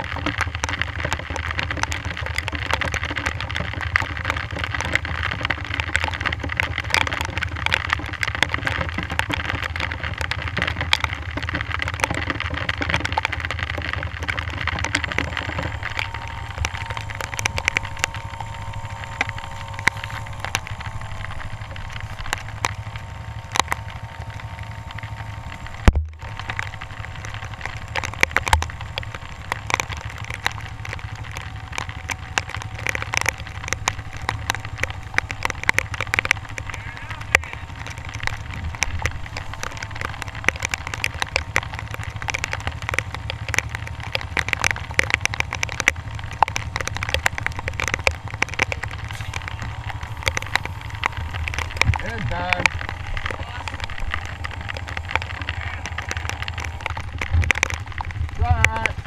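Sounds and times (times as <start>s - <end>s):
dirt bike engine running: 0.0s - 59.0s
rain ticking on camera: 0.0s - 59.0s.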